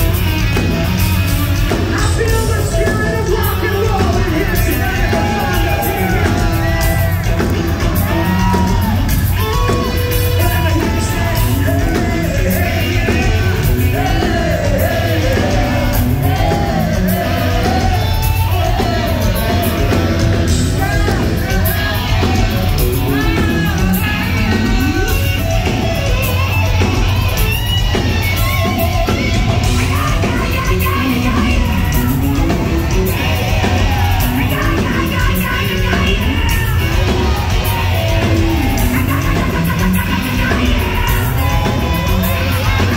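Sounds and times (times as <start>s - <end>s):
hard rock band playing: 0.0s - 42.9s
man singing and yelling: 0.0s - 42.9s.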